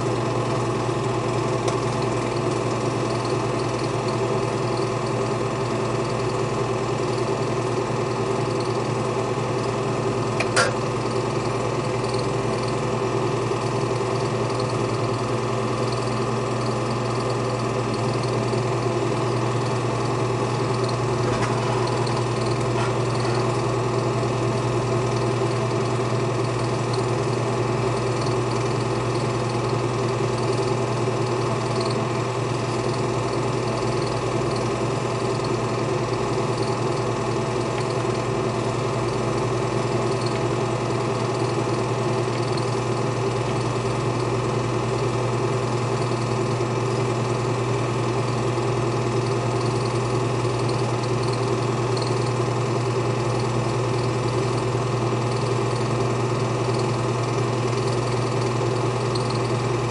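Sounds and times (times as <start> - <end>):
film projector running: 0.0 - 59.9.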